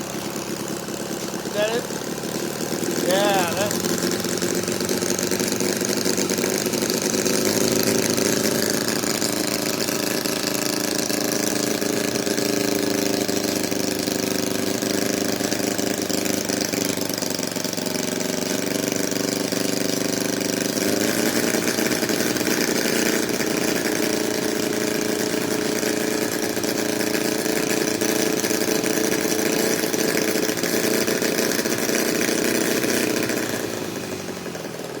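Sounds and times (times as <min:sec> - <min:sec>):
miniature gasoline engine running: 0:00.0 - 0:35.0.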